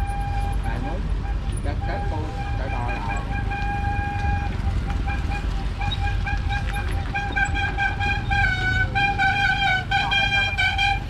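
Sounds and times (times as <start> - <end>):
low engine rumble: 0.0 - 11.0
vehicle horn tooting: 0.0 - 11.0.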